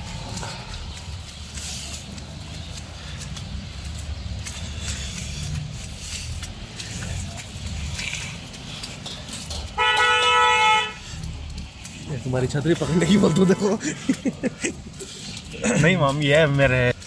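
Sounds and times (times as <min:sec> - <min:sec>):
traffic on slushy road: 0:00.0 - 0:17.0.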